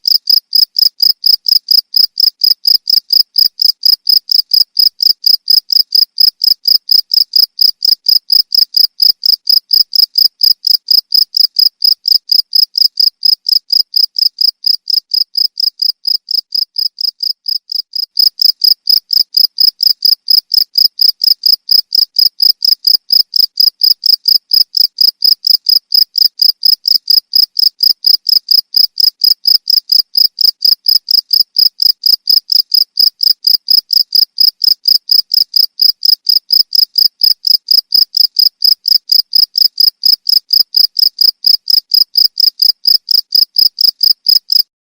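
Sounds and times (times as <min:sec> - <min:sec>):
cricket chirping: 0:00.0 - 0:44.6.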